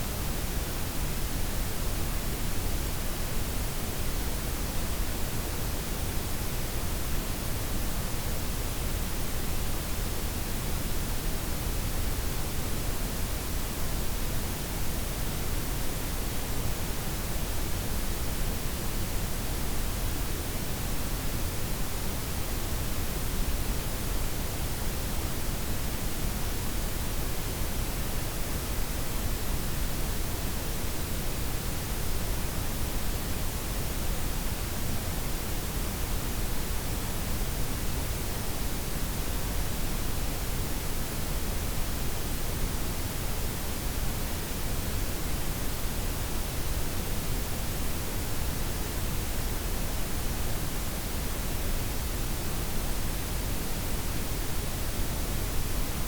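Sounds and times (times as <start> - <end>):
constant noise hiss: 0.0 - 56.0.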